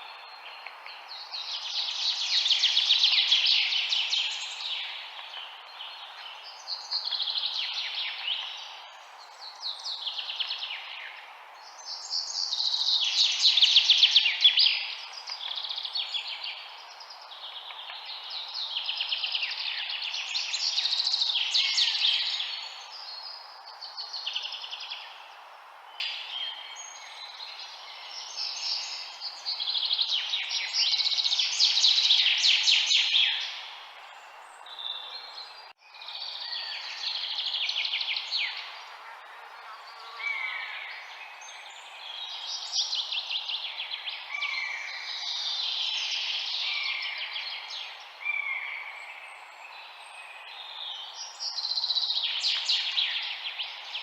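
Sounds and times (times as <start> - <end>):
background hiss: 0.0 - 54.0
songbirds singing and chirping: 0.0 - 54.0.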